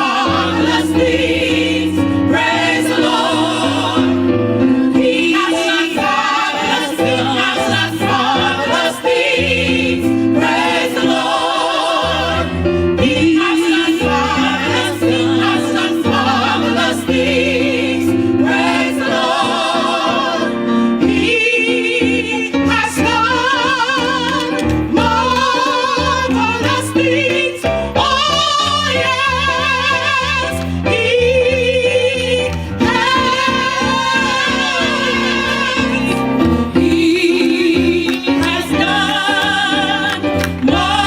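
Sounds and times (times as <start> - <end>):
gospel choir singing: 0.0 - 41.0.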